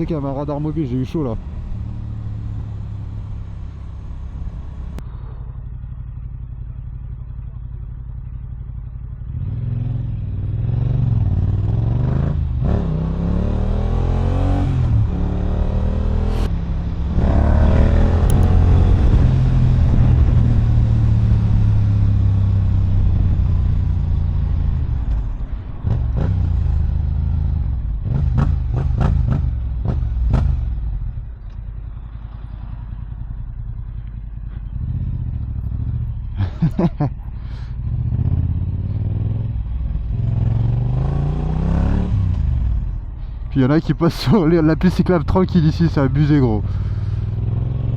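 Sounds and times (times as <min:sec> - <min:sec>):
motorcycle engine accelerating: 0:00.4 - 0:43.4, 0:46.0 - 0:47.9.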